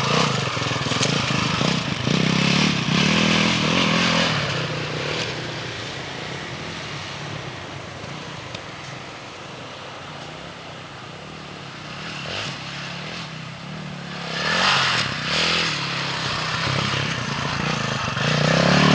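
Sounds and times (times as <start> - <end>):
motorcycle engine revving: 0.0 - 8.5, 11.3 - 18.9
rush of noise: 0.0 - 18.9.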